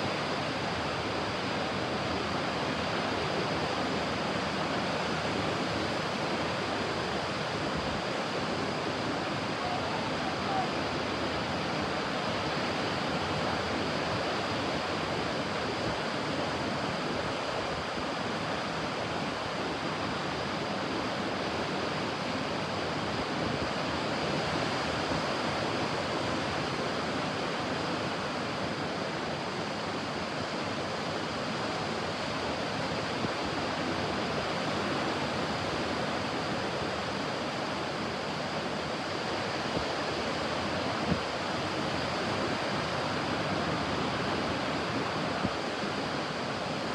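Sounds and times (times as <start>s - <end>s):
ocean surf on a beach: 0.0s - 46.9s.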